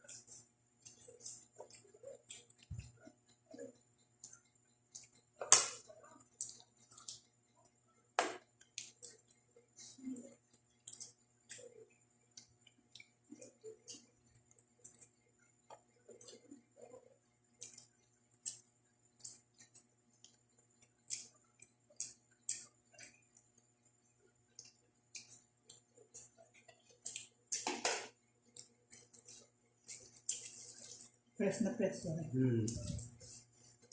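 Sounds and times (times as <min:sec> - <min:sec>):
person chewing and lip smacking: 0:00.1 - 0:07.3, 0:08.6 - 0:23.7, 0:24.5 - 0:27.8, 0:28.5 - 0:31.2.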